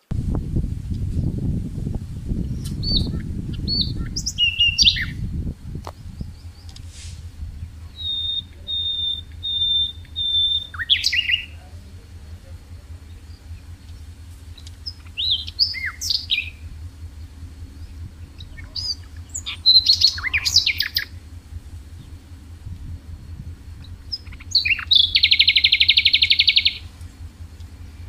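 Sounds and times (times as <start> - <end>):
songbird singing: 0.0 - 28.0
steady low hum: 0.0 - 28.0.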